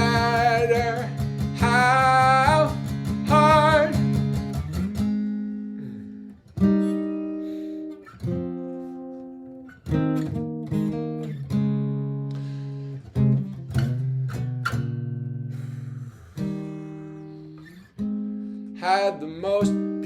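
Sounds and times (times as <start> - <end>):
acoustic guitar chords ringing: 0.0 - 20.0.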